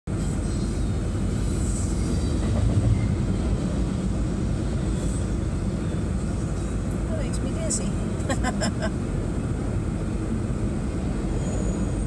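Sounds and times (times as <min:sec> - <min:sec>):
train wheels rumbling on rails: 0:00.1 - 0:12.0.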